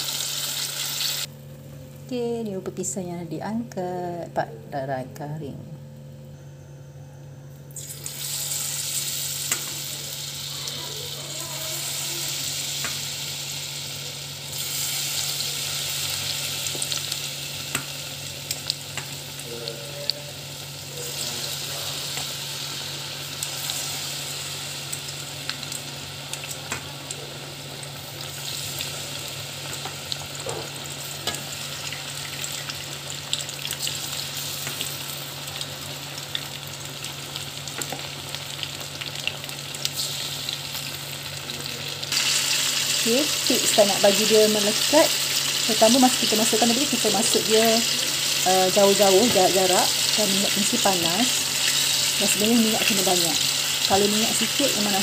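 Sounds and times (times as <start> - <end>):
crackles and pops of frying: 7.7 - 55.0.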